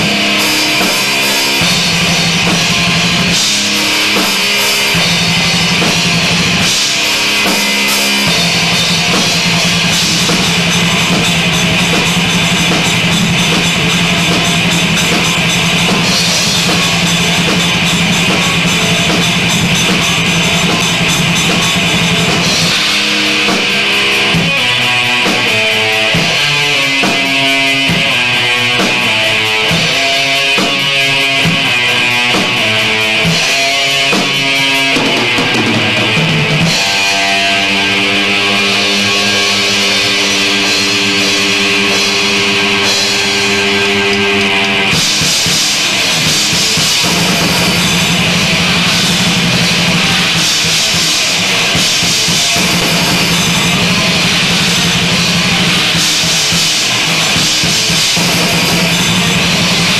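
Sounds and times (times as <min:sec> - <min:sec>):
metal song on drums and guitar: 0:00.0 - 0:59.9.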